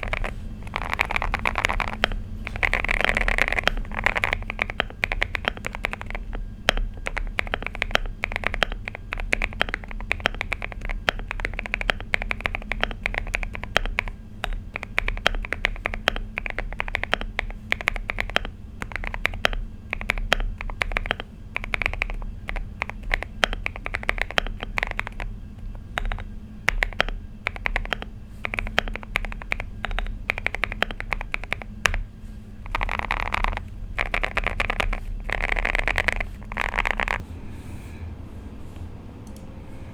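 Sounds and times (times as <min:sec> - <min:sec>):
mechanical keyboard typing: 0:00.0 - 0:37.2.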